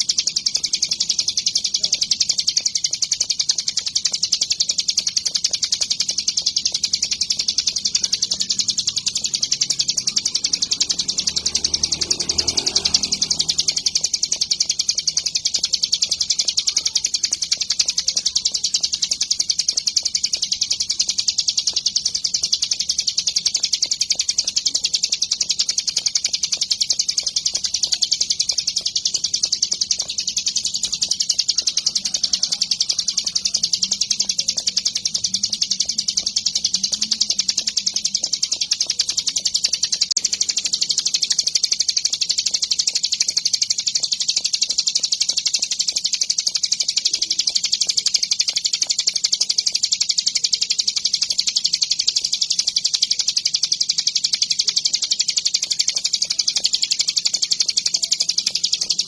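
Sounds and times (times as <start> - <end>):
songbird chattering trill: 0.0 - 59.0.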